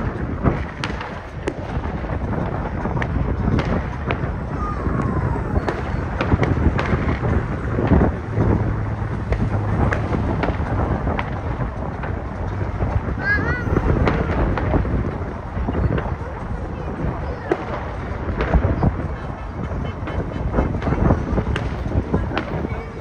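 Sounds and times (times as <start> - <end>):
fireworks bangs: 0.0 - 23.0
low rumble: 0.0 - 23.0.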